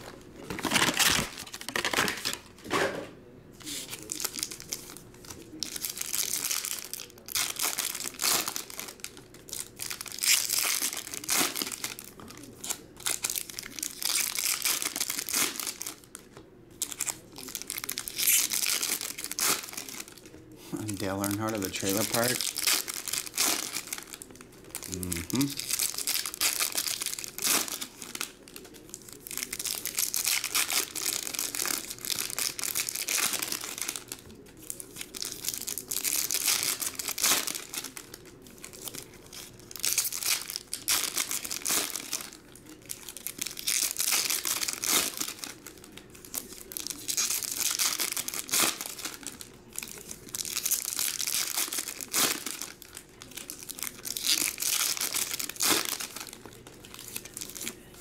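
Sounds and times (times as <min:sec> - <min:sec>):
foil wrappers tearing and crinkling: 0:00.0 - 0:02.6, 0:03.6 - 0:58.0.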